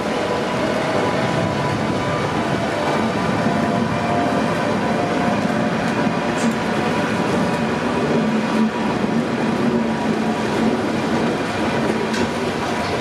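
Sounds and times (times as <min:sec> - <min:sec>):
wheels rumbling on rails: 0:00.0 - 0:13.0.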